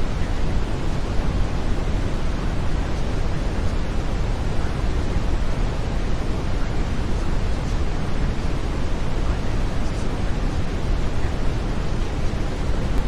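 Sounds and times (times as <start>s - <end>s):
brown noise hiss: 0.0s - 13.0s.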